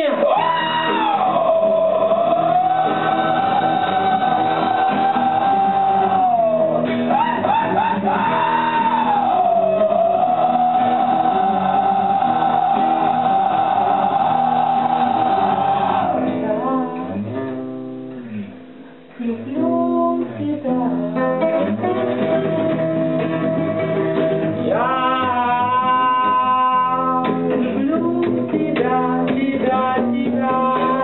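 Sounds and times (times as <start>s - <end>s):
man singing: 0.0s - 17.2s, 19.2s - 22.5s, 24.6s - 31.0s
acoustic guitar: 0.0s - 31.0s.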